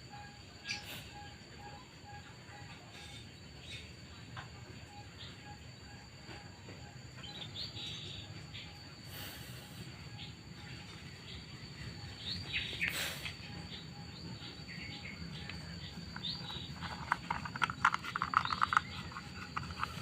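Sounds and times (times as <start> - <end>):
birds chirping: 0.0 - 20.0
steady high whine: 0.0 - 20.0.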